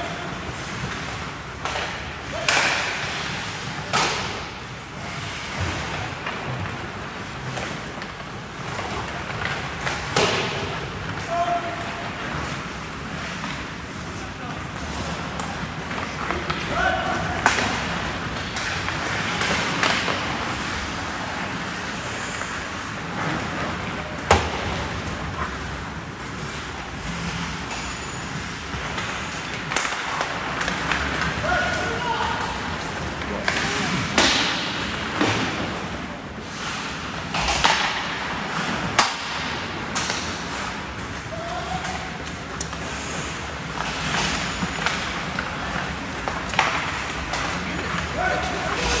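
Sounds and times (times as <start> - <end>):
hockey sticks and puck clacking: 0.0 - 49.0
skates scraping ice: 0.0 - 49.0.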